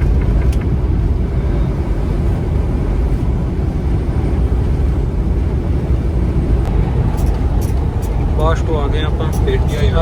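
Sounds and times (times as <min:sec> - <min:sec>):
road noise: 0:00.0 - 0:10.0
wind buffeting: 0:00.0 - 0:10.0.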